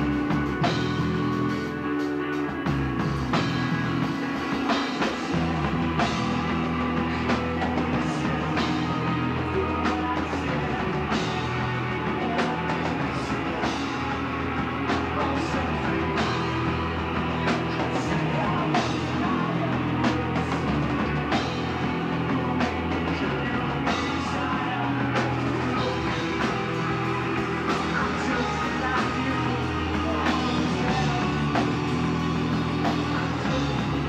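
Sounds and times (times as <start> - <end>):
bass guitar: 0.0 - 34.0
distorted electric guitars: 0.0 - 34.0
drum kit: 0.0 - 34.0.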